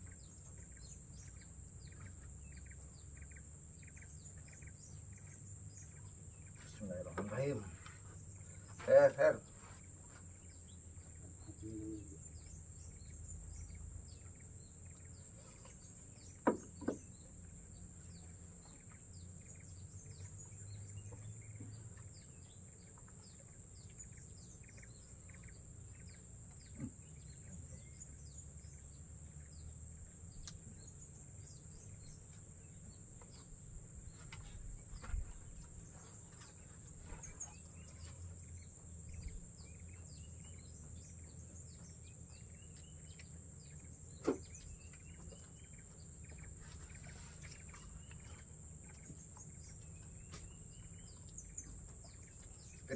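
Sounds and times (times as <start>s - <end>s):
bird chirps: 0.0s - 52.9s.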